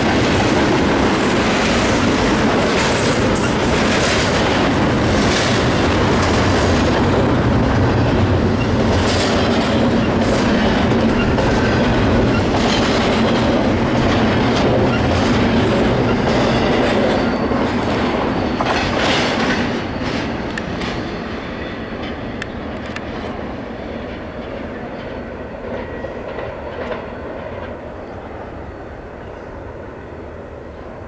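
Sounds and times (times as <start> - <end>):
wheels clickety-clack on rail joints: 0.0 - 28.4
freight train wheels rumbling: 0.0 - 31.0.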